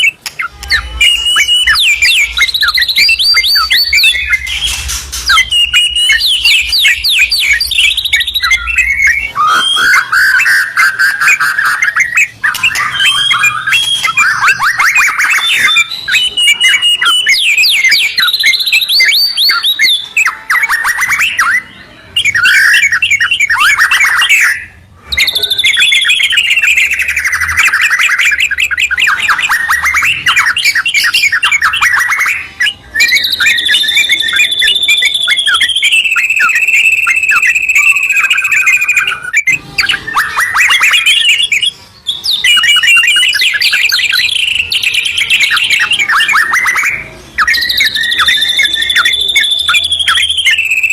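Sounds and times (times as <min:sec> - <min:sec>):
birds singing in duet: 0:00.0 - 0:50.9.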